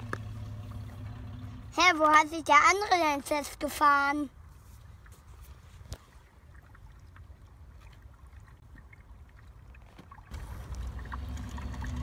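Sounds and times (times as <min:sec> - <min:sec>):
shallow stream water: 0:00.0 - 0:12.0.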